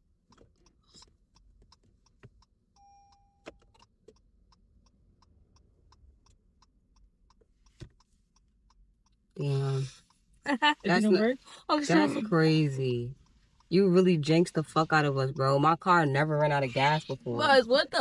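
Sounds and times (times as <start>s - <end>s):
indicator ticking: 0.0s - 18.0s.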